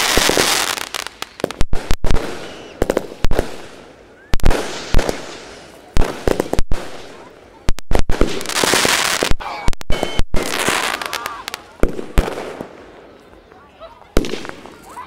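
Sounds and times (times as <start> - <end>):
fireworks bangs: 0.0 - 13.2, 14.0 - 15.0.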